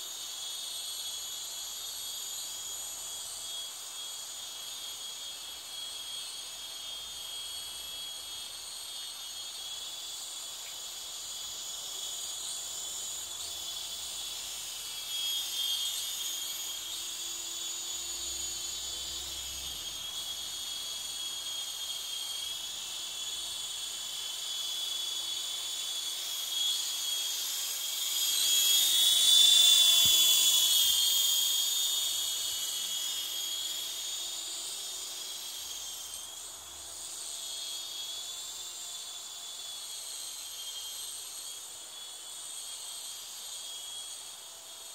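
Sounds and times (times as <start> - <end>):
rc helicopter whining in flight: 0.0 - 44.9.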